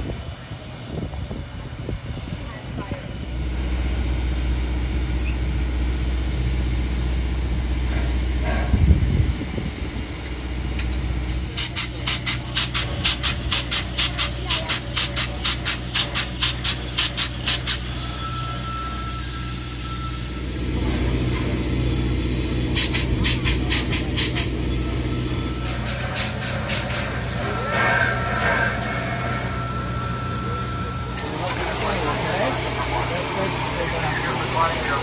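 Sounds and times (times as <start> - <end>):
steam locomotive beats: 0.0 - 35.0.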